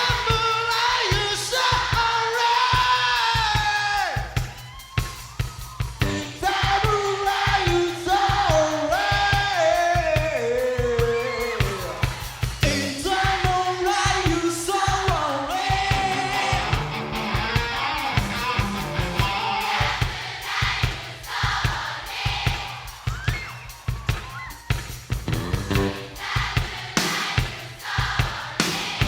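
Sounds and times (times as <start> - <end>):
rock band playing live: 0.0 - 21.4, 22.2 - 29.0
drum hits: 0.0 - 29.0.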